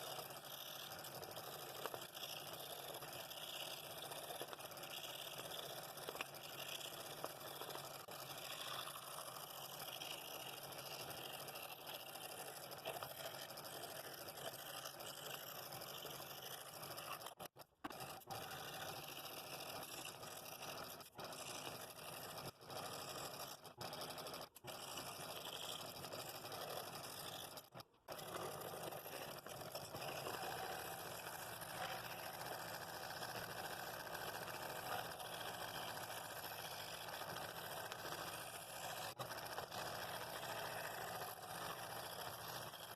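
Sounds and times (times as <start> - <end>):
scroll saw cutting wood: 0.0 - 42.9.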